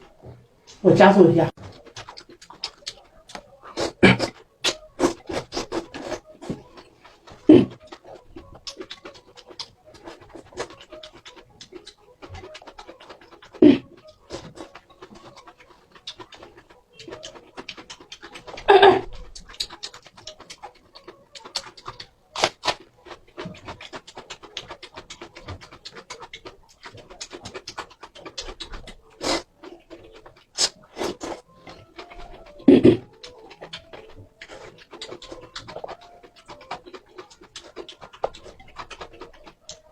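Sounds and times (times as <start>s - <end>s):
noodles slurped and chewed: 1.5s - 39.9s.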